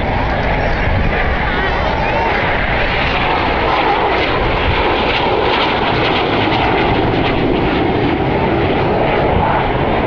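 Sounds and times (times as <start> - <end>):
aircraft flying past: 0.0 - 10.0.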